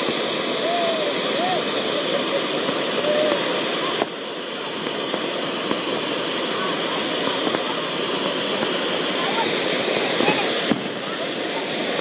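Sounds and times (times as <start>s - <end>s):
dense crowd noise: 0.0s - 12.0s.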